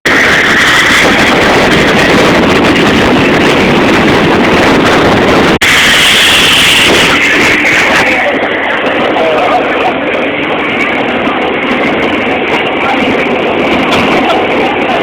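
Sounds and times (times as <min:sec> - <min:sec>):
wind buffeting microphone: 0:00.0 - 0:15.0
motorboat engine running: 0:00.1 - 0:15.0
water rushing: 0:00.1 - 0:15.0.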